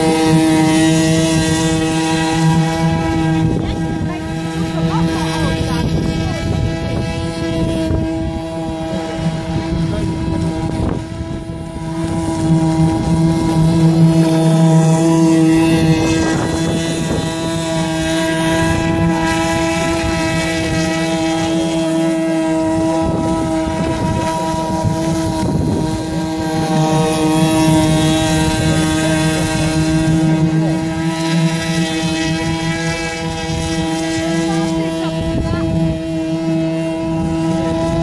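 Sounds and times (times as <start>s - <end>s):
model boat engine and propeller: 0.0s - 38.0s.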